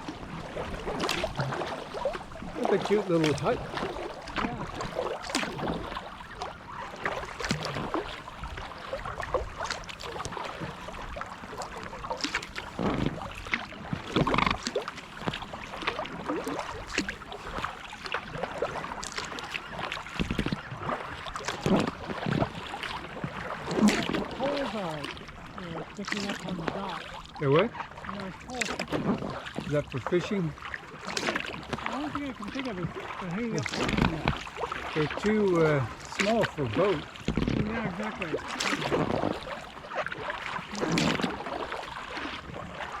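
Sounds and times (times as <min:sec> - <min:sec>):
paddle splashing in water: 0:00.0 - 0:43.0
water dripping and gurgling: 0:00.0 - 0:43.0.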